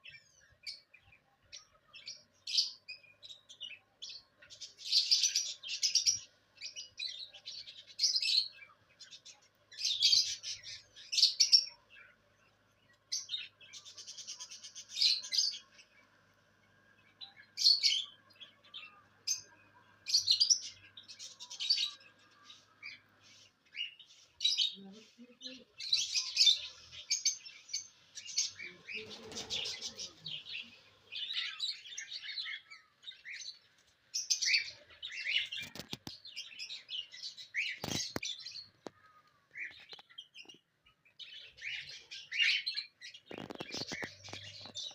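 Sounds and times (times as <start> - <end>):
small pet birds chirping: 0.0 - 44.9.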